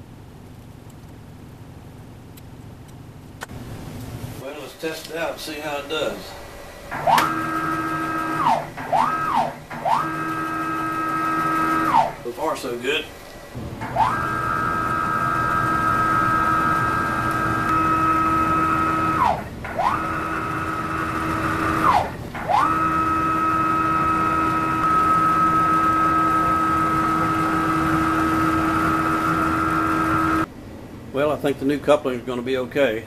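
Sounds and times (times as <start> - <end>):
stepper motors whining: 0.0 - 30.5.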